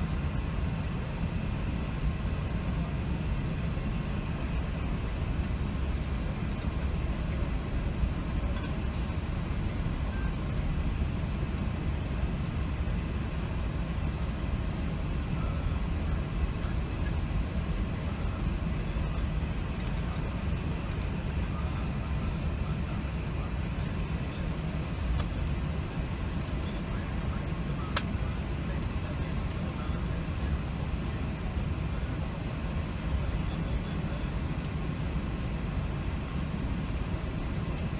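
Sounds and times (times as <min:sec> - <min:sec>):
aircraft cabin engine rumble: 0:00.0 - 0:37.9.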